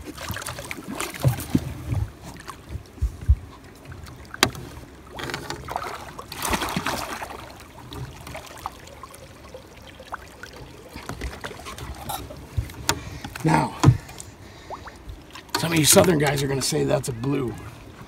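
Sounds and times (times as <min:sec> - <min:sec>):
fish thrashing and splashing: 0:00.0 - 0:16.4.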